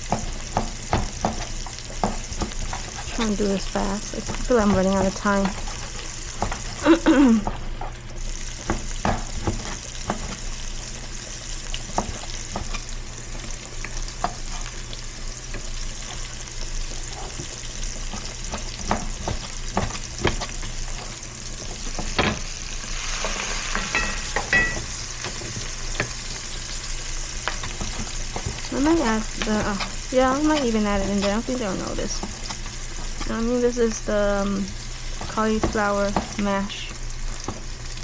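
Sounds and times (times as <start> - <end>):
utensil scraping a pan: 0.0 - 33.6
food sizzling in a frying pan: 0.0 - 38.0.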